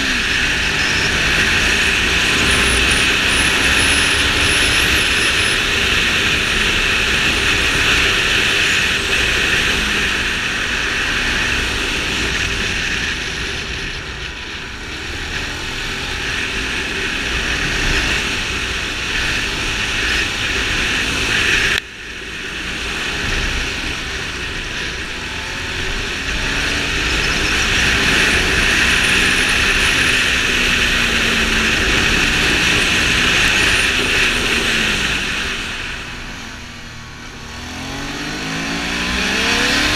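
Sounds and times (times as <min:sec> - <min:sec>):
motorcycle engine running at speed: 0:00.0 - 0:39.9.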